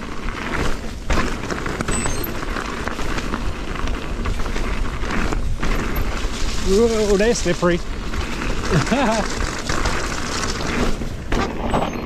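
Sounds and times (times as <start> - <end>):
bike rattling over ground: 0.0 - 12.0.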